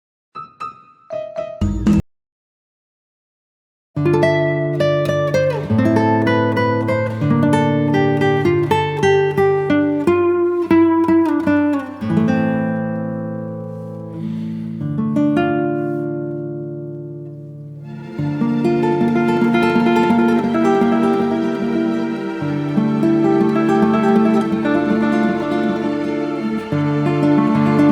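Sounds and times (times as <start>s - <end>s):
picked acoustic guitar: 4.0s - 27.9s.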